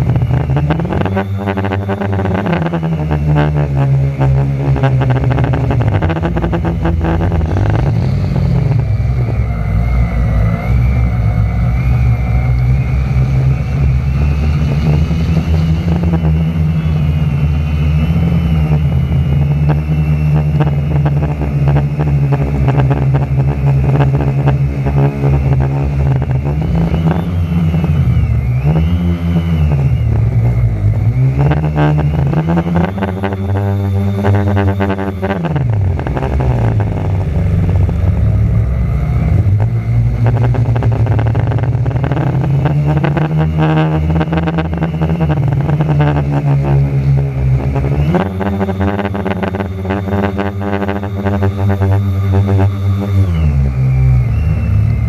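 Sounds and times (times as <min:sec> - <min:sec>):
quadcopter motors buzzing: 0:00.0 - 0:55.0.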